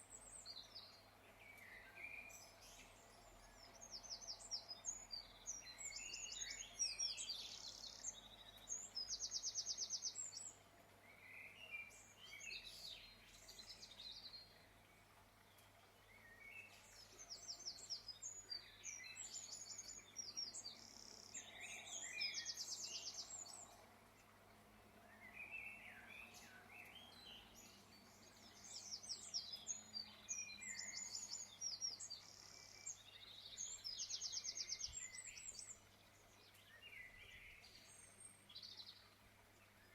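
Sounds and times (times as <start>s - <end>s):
birds chirping and trilling: 0.0s - 24.3s, 25.0s - 39.9s.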